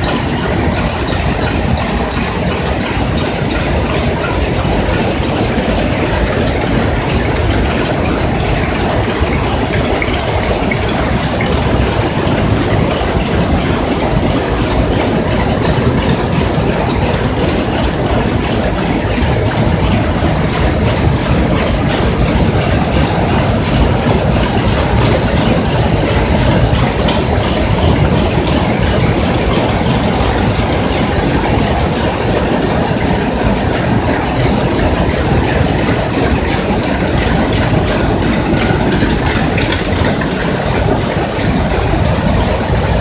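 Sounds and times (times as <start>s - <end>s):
looms clattering: 0.0s - 43.0s.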